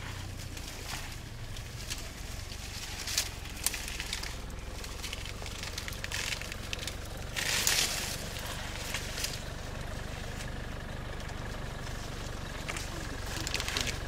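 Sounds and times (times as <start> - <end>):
steady low hum: 0.0 - 14.0
twigs snapping and leaves rustling: 0.0 - 14.0.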